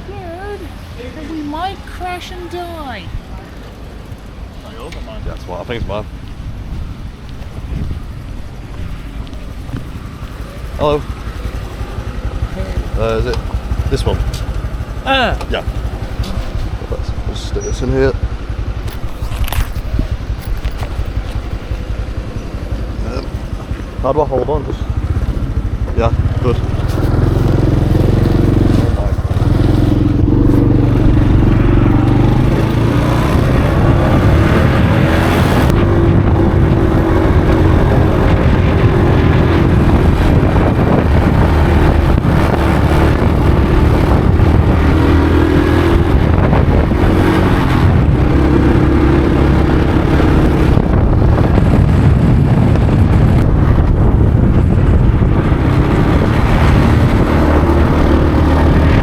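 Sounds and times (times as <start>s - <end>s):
heavy low rumble: 0.0s - 59.0s
motorbike engine revving: 8.8s - 59.0s.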